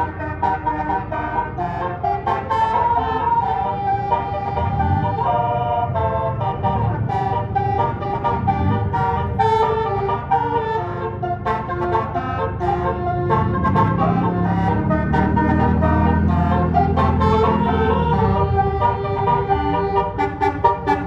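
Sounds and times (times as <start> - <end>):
low engine rumble: 0.0 - 21.0
multi-tone horn playing a melody: 0.0 - 21.0.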